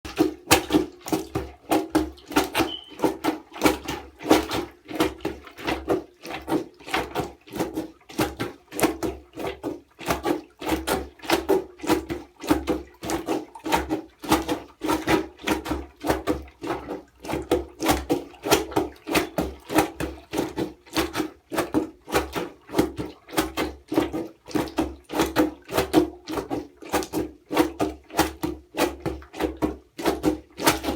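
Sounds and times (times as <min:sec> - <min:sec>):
plunger sloshing water in bucket: 0:00.1 - 0:30.9.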